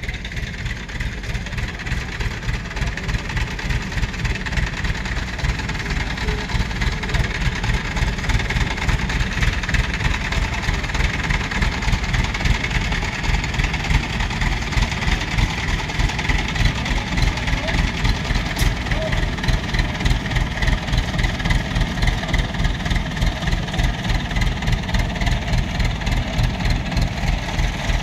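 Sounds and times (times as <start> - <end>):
diesel engine throbbing: 0.0 - 28.0.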